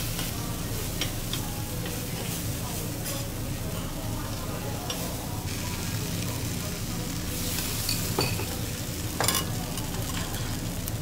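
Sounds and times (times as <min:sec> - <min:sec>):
batter sizzling on griddle: 0:00.0 - 0:11.0.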